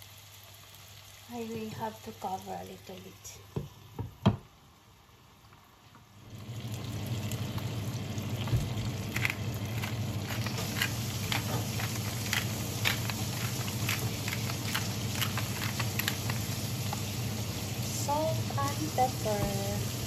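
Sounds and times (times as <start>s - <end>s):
fish sizzling in oil: 0.0s - 3.4s, 5.3s - 20.0s.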